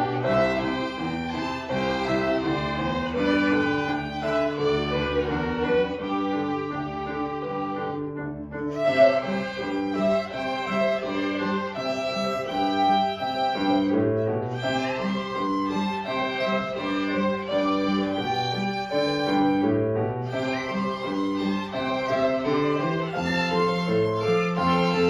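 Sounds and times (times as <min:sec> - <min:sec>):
violins playing a melody: 0:00.0 - 0:25.0.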